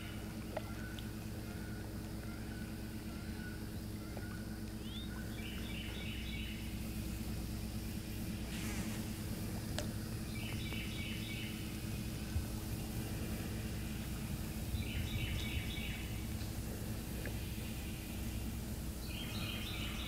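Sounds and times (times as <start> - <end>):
low outdoor ambience hum: 0.0 - 20.0
songbird chirping: 0.0 - 20.0.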